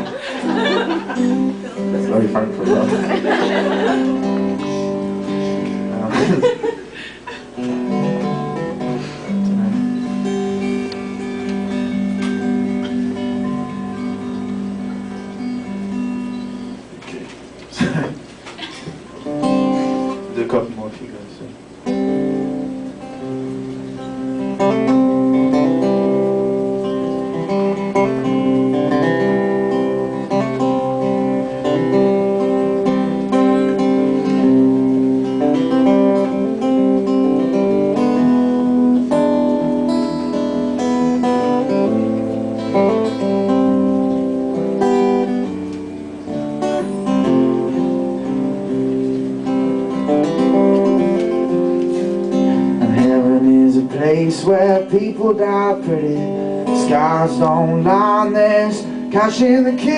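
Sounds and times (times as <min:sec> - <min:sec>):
acoustic guitar strumming: 0:00.0 - 0:20.8, 0:21.6 - 0:59.9.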